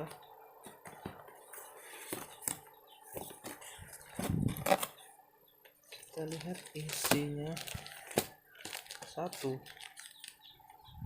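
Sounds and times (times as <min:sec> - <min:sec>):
packaging taps and rustles: 0:00.6 - 0:04.9, 0:05.8 - 0:10.5.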